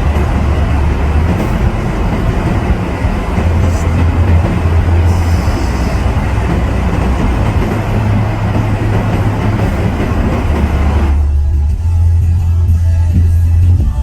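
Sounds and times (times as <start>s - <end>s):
tyres rumbling on road: 0.0s - 11.8s
low droning hum: 0.0s - 12.7s.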